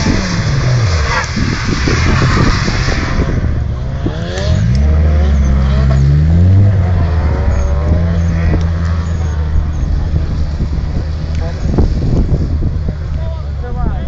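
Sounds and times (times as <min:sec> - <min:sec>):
car engine revving hard: 0:00.0 - 0:13.1.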